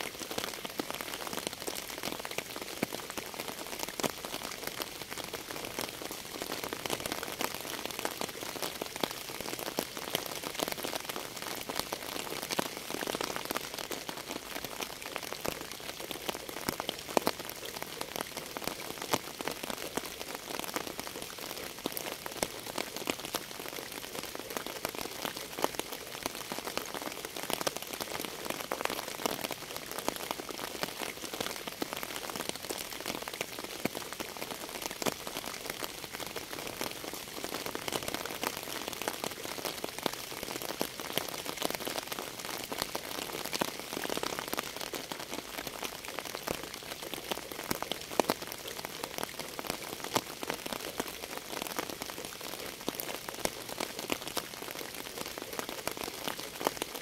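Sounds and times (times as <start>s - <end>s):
rain drops ticking on hard surface: 0.0s - 57.0s.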